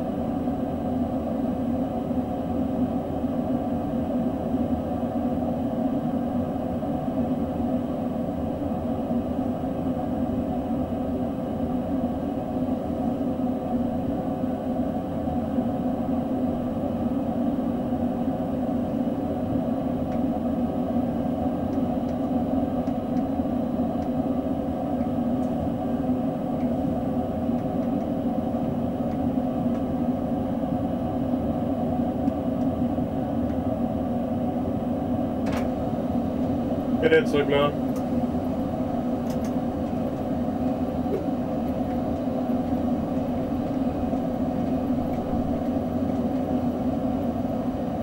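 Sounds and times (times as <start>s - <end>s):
electric train hum with tones: 0.0s - 48.0s.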